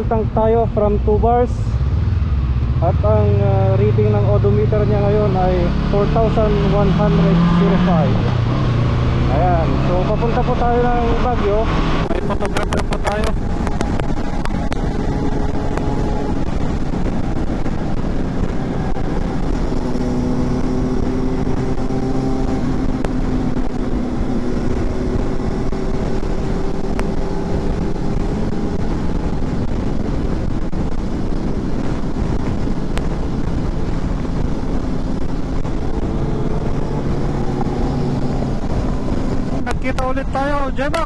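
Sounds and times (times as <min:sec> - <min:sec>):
motorcycle engine cruising: 0:00.0 - 0:41.0
wind and road noise: 0:00.0 - 0:41.0.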